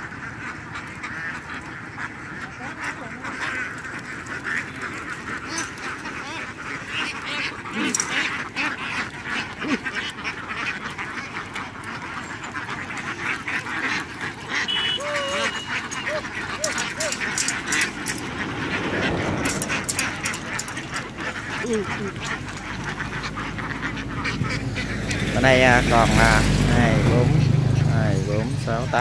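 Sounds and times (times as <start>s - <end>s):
ducks quacking: 0.0s - 29.0s.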